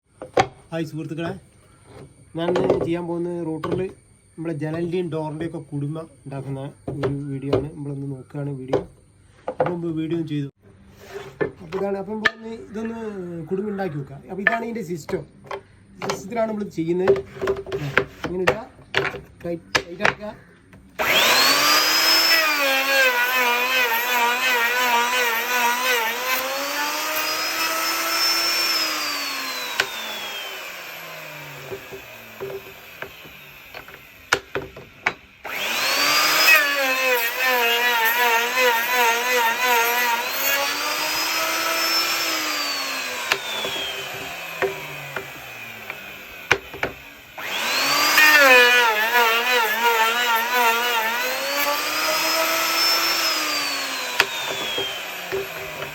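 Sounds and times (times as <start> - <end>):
wood router whining and cutting: 1.2 - 8.1, 14.0 - 55.9.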